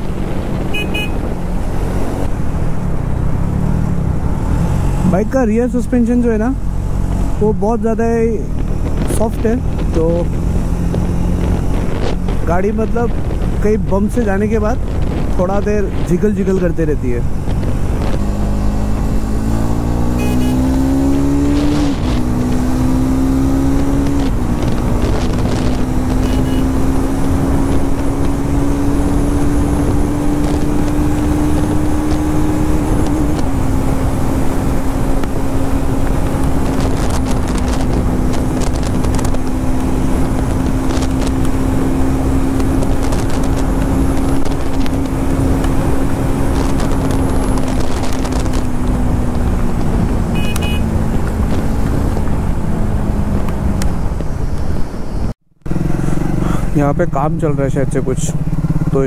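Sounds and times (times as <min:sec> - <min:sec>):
motorcycle engine accelerating: 0:00.0 - 0:13.8, 0:17.2 - 0:59.0.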